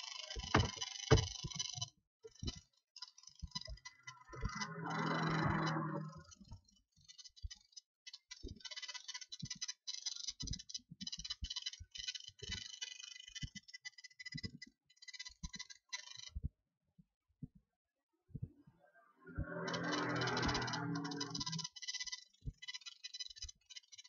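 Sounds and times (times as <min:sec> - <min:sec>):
faint irregular clicking: 0:00.0 - 0:17.7, 0:19.4 - 0:24.0.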